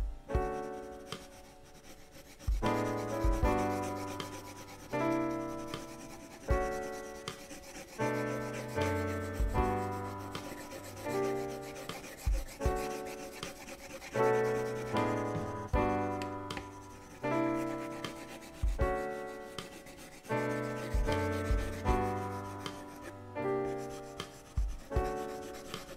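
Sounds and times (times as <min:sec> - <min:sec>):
calm background music chords: 0:00.0 - 0:25.9
pencil shading on paper: 0:00.0 - 0:25.9.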